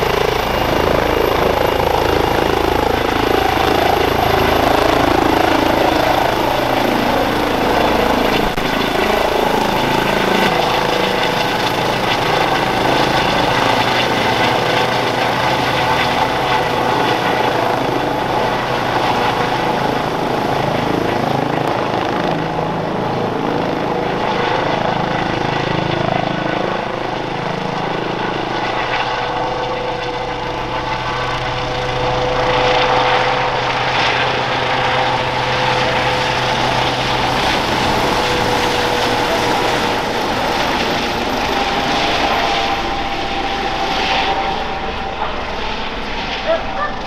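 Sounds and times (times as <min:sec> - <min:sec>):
helicopter rotor noise: 0:00.0 - 0:47.0
turboshaft engine whine: 0:00.0 - 0:47.0.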